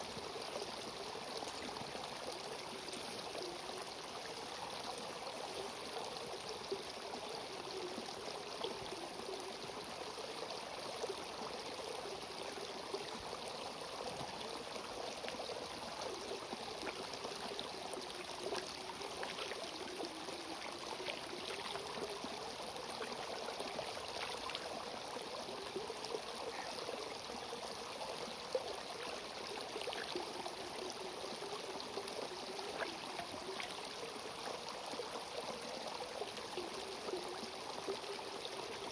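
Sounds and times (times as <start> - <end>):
faint water splashes: 0.0 - 38.9
mountain stream running: 0.0 - 38.9.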